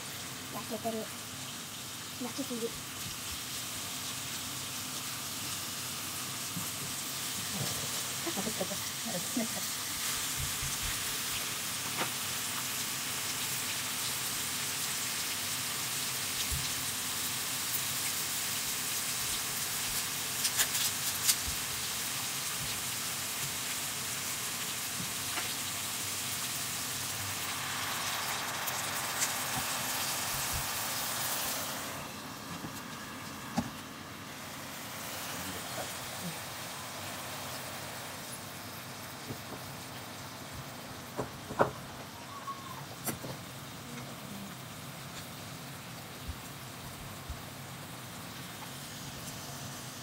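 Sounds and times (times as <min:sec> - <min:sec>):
meat sizzling in a pan: 0:00.0 - 0:40.9.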